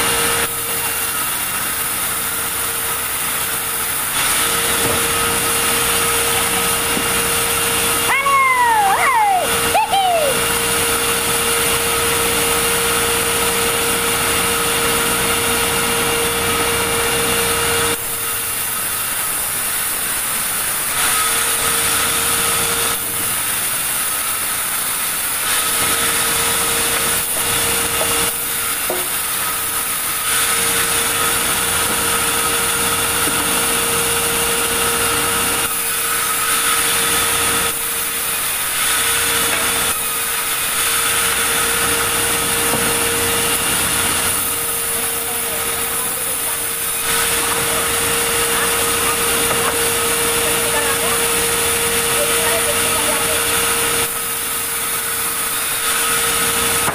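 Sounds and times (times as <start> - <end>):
sawmill saw cutting timber: 0.0 - 56.9.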